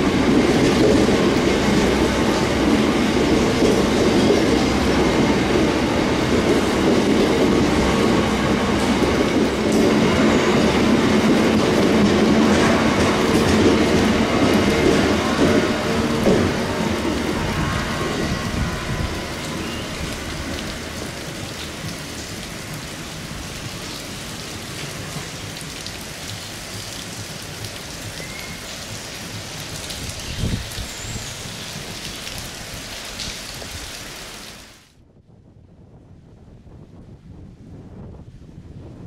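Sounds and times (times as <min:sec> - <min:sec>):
freight train wagons rumbling: 0:00.0 - 0:34.3
heavy rain falling: 0:00.0 - 0:34.9.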